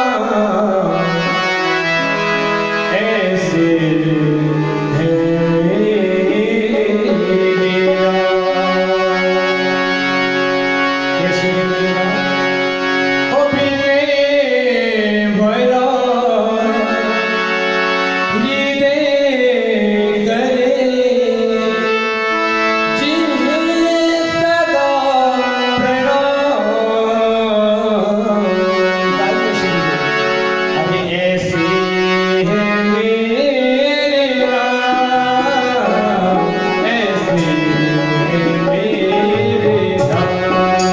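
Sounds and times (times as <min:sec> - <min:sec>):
harmonium chords: 0:00.0 - 0:40.9
man singing devotional song: 0:00.0 - 0:40.9.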